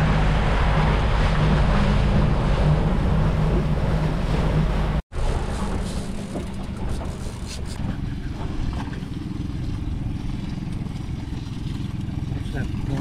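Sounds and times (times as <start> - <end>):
outboard motor droning: 0.0 - 13.0
wind and water hiss: 0.0 - 13.0.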